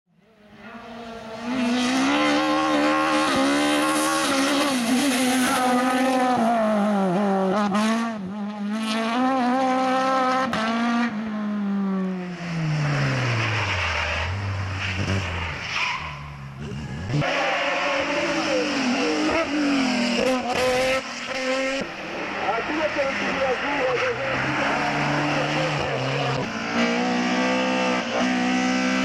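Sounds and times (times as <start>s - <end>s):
racing car engine revving: 0.5s - 29.0s.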